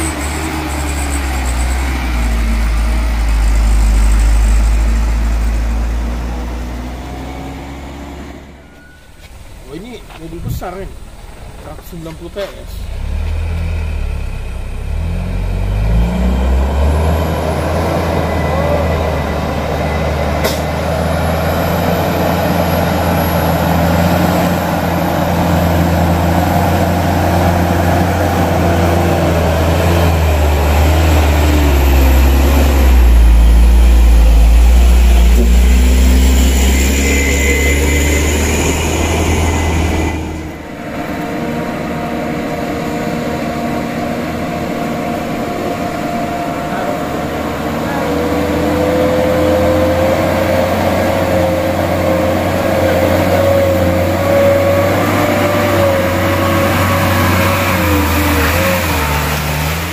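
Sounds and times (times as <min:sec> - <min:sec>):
diesel truck engine labouring uphill: 0:00.0 - 0:59.9.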